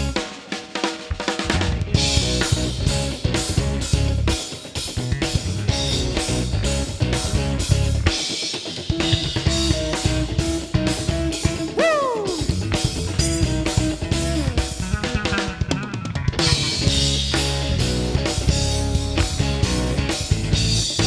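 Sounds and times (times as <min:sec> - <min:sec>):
band playing chords: 0:00.0 - 0:00.2, 0:01.8 - 0:04.4, 0:05.0 - 0:08.2, 0:09.1 - 0:15.6, 0:16.4 - 0:21.0
drum kit playing: 0:00.0 - 0:21.0.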